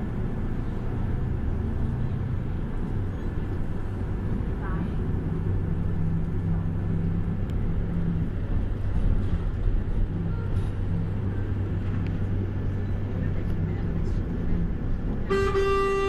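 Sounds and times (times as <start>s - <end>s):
bus engine and road drone: 0.0s - 16.0s.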